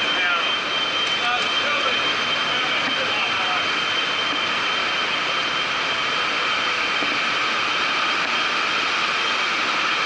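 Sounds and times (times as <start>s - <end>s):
thin high machine whine: 0.0s - 10.0s.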